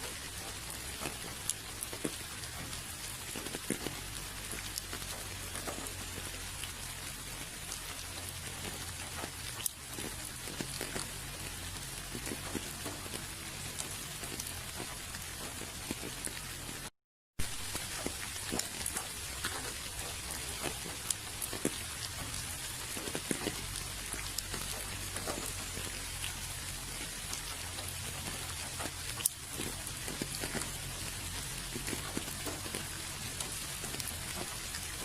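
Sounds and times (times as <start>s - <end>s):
rain hissing: 0.0s - 35.0s
raindrops ticking on surfaces: 0.0s - 35.0s.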